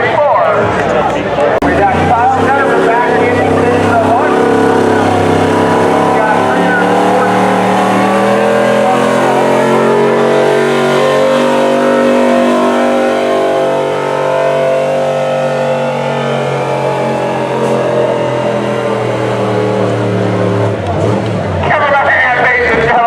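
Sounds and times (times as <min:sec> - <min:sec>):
truck engine at high revs: 0:00.0 - 0:23.0.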